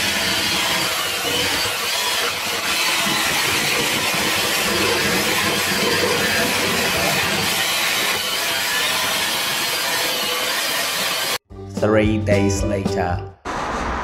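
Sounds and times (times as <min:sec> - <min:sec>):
electric hand mixer whirring: 0:00.0 - 0:11.4.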